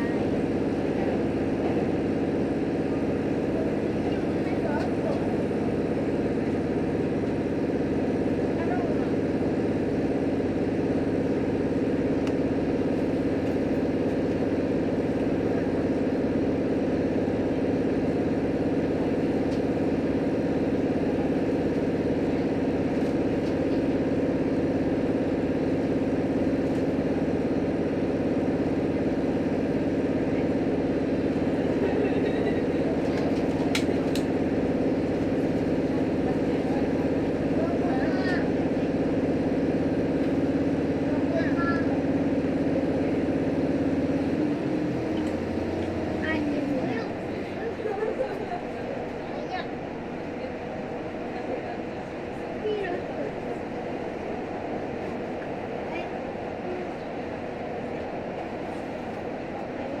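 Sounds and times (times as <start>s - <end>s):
railcar engine drone: 0.0s - 60.0s.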